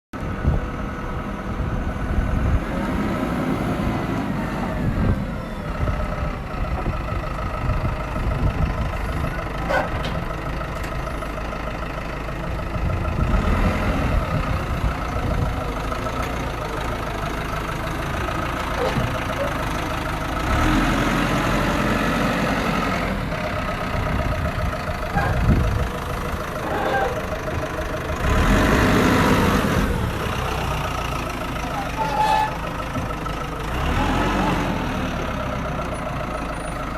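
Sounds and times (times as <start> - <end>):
vehicle engine idling: 0.2 - 36.9.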